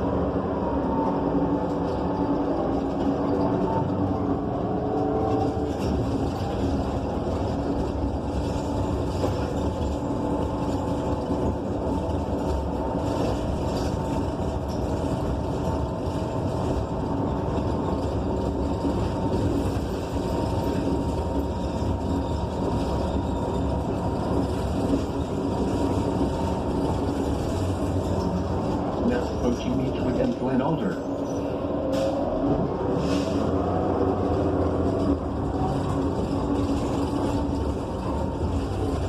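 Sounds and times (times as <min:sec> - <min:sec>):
bus cabin engine and road hum: 0:00.0 - 0:39.0.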